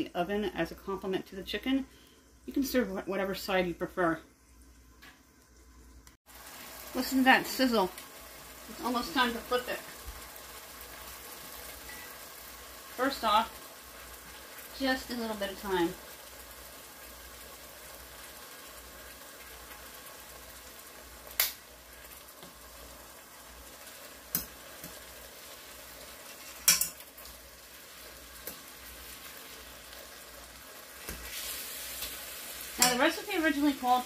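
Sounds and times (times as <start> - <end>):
chicken sizzling in hot oil: 6.2 - 34.0.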